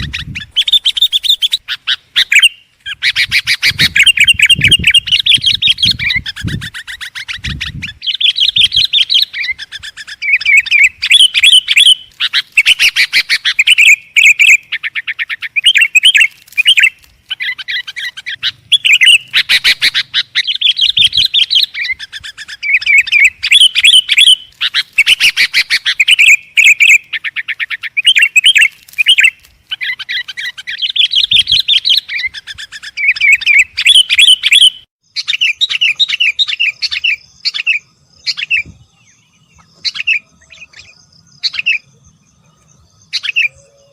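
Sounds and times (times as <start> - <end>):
bird chattering chirps: 0.0 - 43.9.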